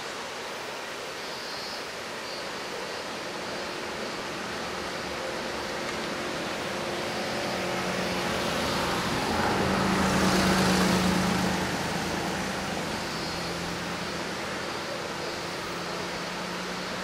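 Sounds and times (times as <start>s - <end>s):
river rapids rushing over rocks: 0.0s - 17.0s
passing vehicle engine hum: 3.0s - 17.0s.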